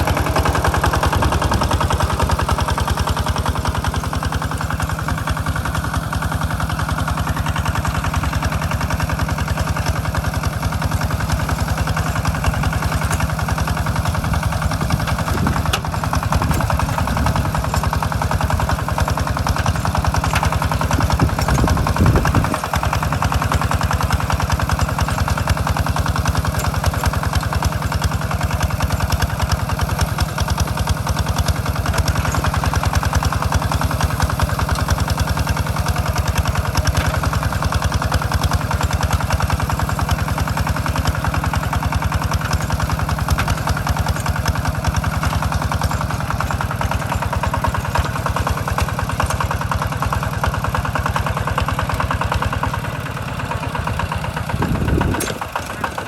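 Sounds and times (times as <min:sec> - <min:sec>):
tractor engine chugging: 0:00.0 - 0:56.0.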